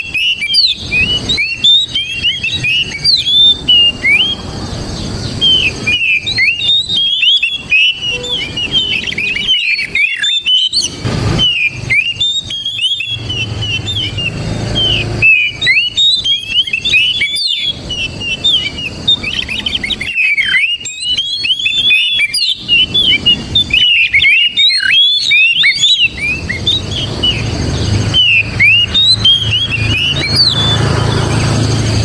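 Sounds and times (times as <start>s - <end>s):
bird singing whistles and chirps: 0.0s - 32.0s.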